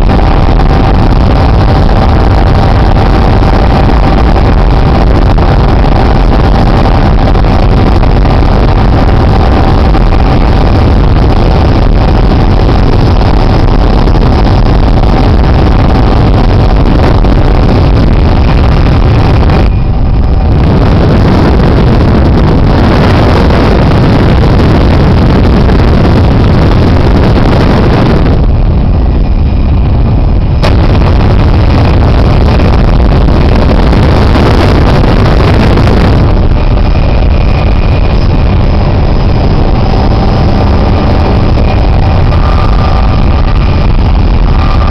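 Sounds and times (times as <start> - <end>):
faint steady whine: 0.0 - 44.9
helicopter engine and rotor: 0.0 - 44.9.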